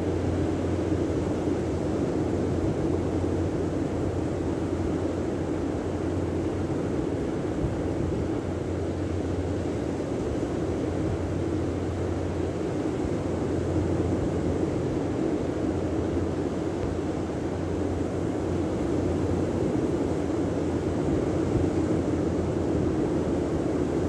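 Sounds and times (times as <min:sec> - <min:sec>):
wind rumble on microphone: 0:00.0 - 0:17.0, 0:17.6 - 0:24.0.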